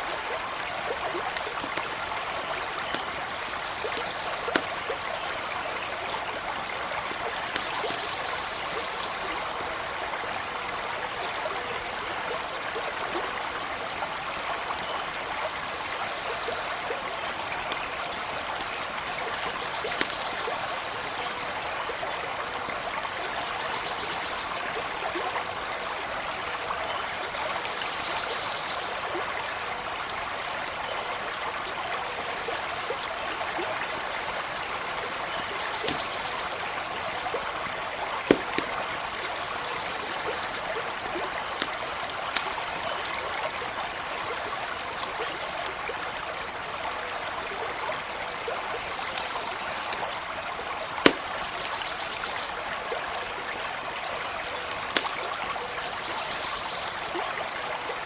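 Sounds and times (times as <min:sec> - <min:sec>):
stream trickling: 0:00.0 - 0:58.0
campfire popping and crackling: 0:00.1 - 0:15.7, 0:16.3 - 0:27.6, 0:28.8 - 0:47.1, 0:48.9 - 0:55.4.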